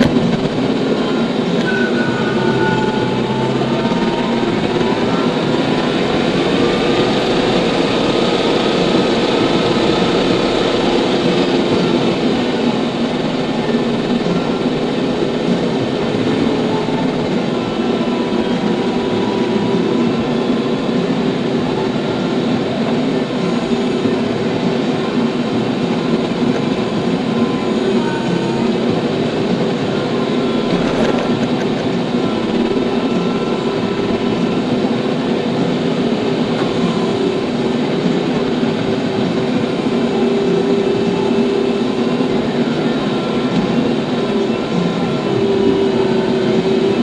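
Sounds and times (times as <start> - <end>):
tractor engine running: 0.0 - 47.0
wavering whine: 0.0 - 47.0.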